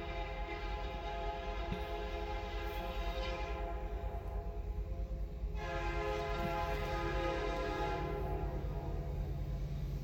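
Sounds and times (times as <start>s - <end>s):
locomotive air horn: 0.0s - 4.8s, 5.5s - 9.3s.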